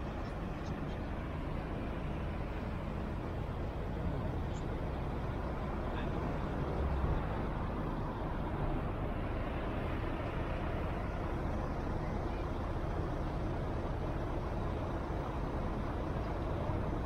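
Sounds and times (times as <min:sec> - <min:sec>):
steady road traffic: 0:00.0 - 0:17.0.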